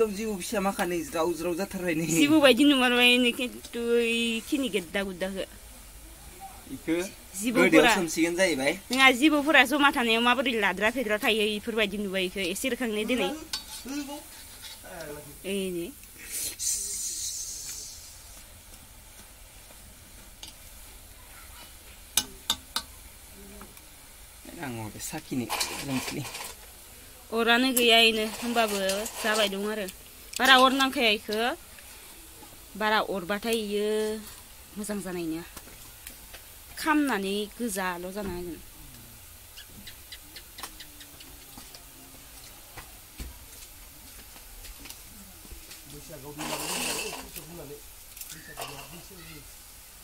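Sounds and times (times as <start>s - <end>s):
dough sizzling in hot oil: 0.0s - 50.0s.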